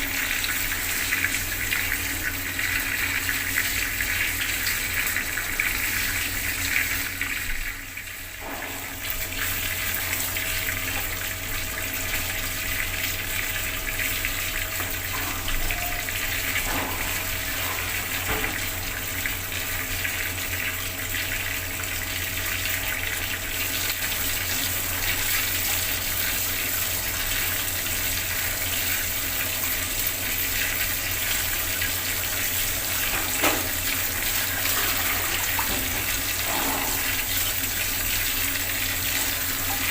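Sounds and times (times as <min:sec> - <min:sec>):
tap water running and splashing: 0:00.0 - 0:39.9.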